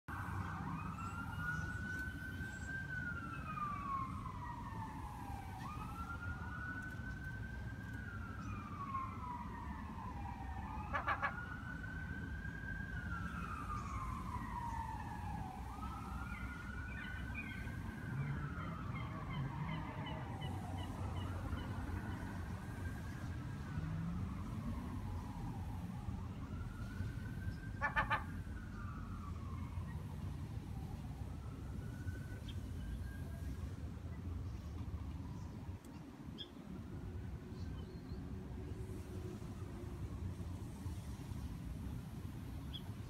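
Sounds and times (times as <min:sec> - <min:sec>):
emergency siren wailing: 0:00.1 - 0:43.0.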